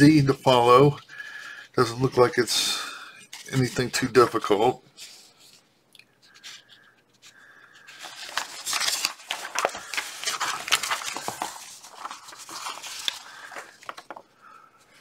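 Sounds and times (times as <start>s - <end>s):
paper rustling and crinkling: 1.8s - 5.6s, 6.2s - 15.0s.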